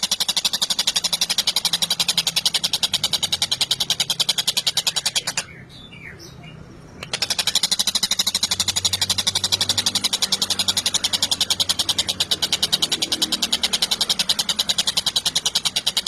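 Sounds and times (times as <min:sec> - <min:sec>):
kingfisher chattering trill: 0:00.0 - 0:16.0.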